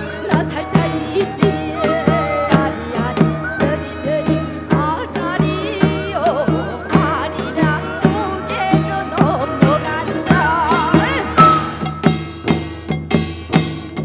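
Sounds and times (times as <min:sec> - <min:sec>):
wavering melodic instruments: 0:00.0 - 0:13.7
drum beating: 0:00.0 - 0:14.0.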